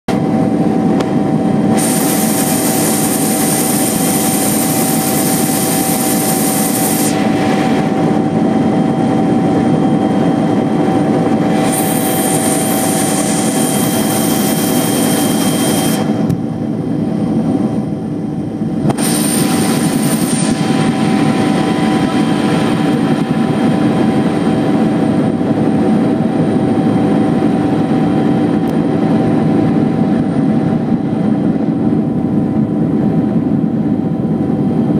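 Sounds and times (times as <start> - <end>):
helicopter engine and rotor drone: 0.1 - 34.9.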